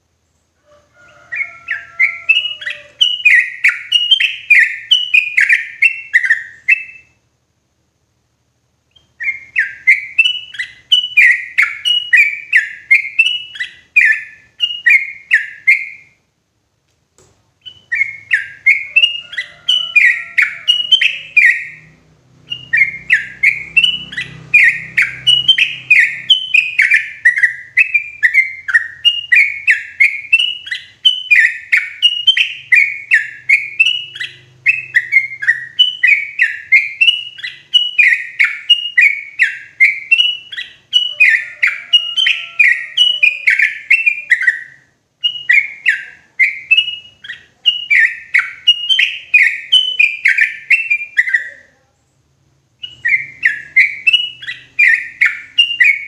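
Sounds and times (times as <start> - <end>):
bird singing repeated notes: 1.0 - 7.2, 8.9 - 16.3, 17.6 - 51.8, 52.7 - 56.0.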